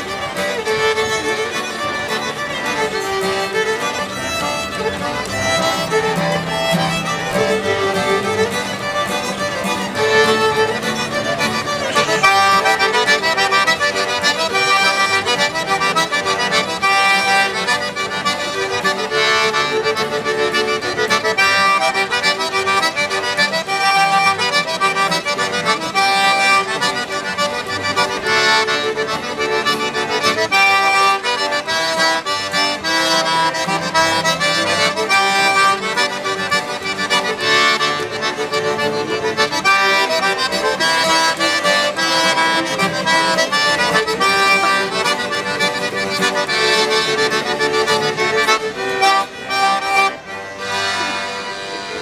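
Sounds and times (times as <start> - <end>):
button accordion: 0.0 - 52.0
fiddle: 0.0 - 52.0
strummed acoustic guitar: 0.0 - 52.0.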